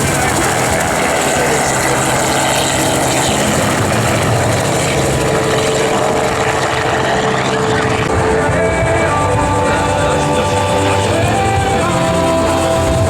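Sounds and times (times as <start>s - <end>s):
helicopter engine and rotor noise: 0.0s - 13.0s.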